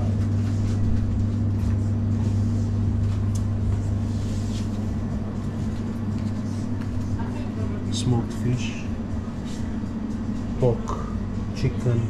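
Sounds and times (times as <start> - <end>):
refrigerated counter electrical hum: 0.0 - 12.0.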